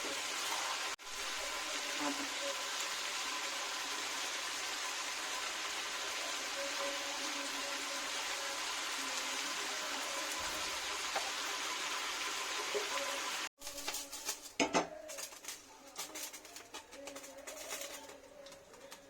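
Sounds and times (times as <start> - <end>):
curry sizzling in a pan: 0.0 - 19.0.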